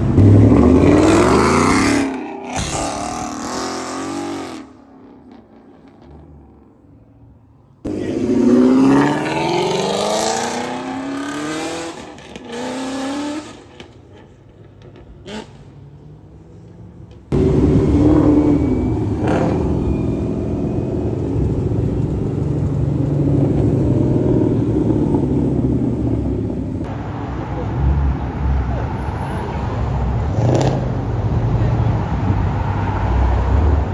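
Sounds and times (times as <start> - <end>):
car engine accelerating hard: 0.0 - 6.2, 7.9 - 13.7, 17.3 - 33.9
car engine and road noise: 0.0 - 33.9.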